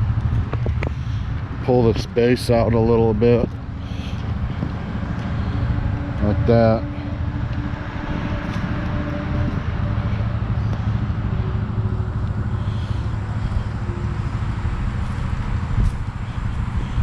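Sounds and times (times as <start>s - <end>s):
quad bike engine idling: 0.0s - 17.0s.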